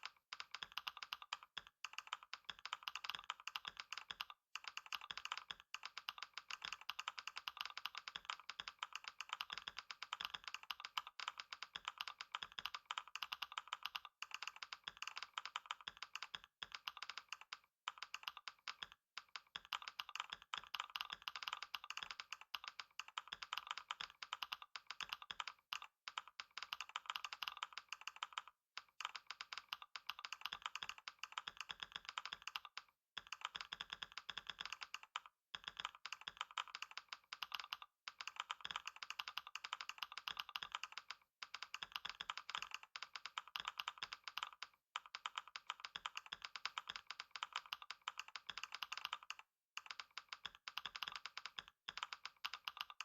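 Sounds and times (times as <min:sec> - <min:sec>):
fast typing on keyboard: 0:00.0 - 0:53.0.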